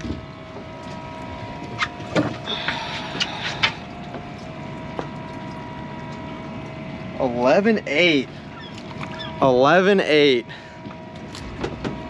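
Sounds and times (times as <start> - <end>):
boat machinery hum: 0.0 - 12.0.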